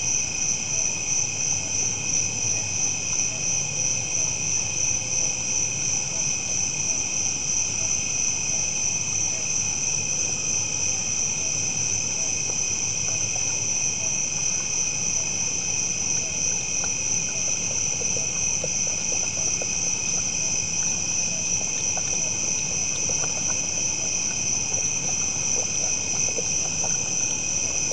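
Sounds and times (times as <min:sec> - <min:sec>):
crickets and insects chirping: 0:00.0 - 0:27.9.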